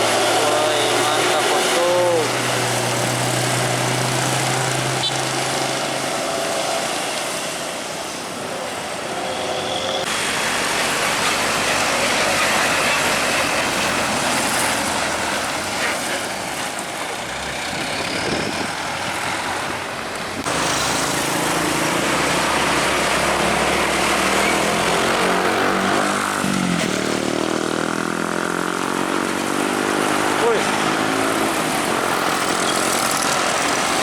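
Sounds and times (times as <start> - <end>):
heavy trucks passing: 0.0 - 34.0
truck engine drone: 0.0 - 34.0.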